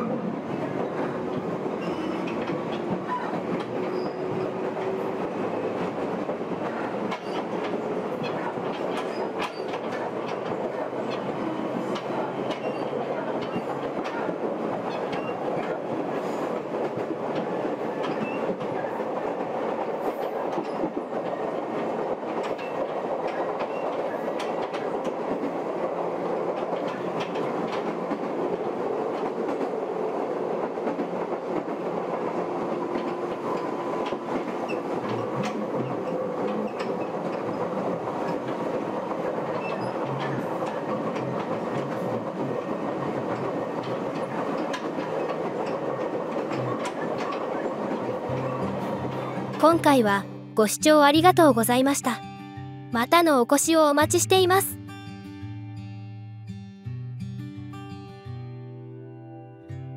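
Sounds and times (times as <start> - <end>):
electric train rumble: 0.0 - 49.6
wheels clicking over rail joints: 0.6 - 49.4.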